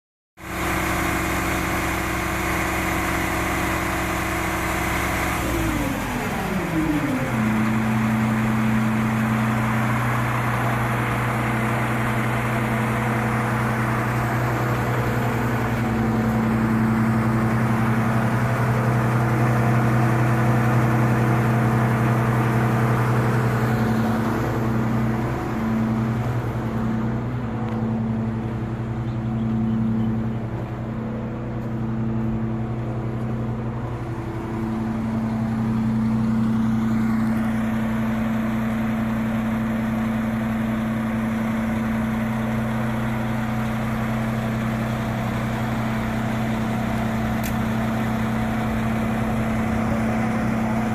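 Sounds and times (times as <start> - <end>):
diesel engine running at low revs: 0.4 - 50.9.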